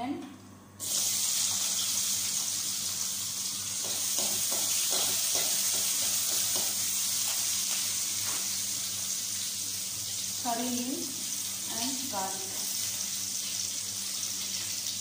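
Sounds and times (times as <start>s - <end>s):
onion sizzling in hot oil: 0.8s - 15.0s.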